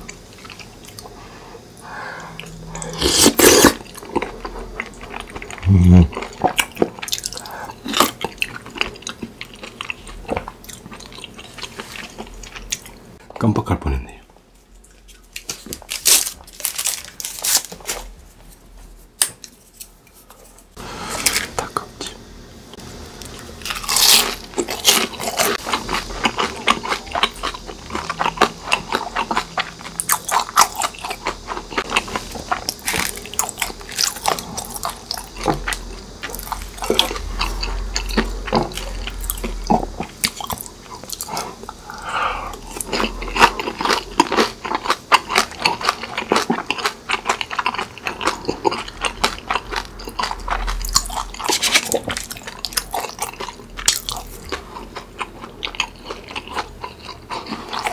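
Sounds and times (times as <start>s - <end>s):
crunching and chewing crispy food: 0.0s - 13.1s, 14.7s - 18.2s, 23.1s - 57.9s.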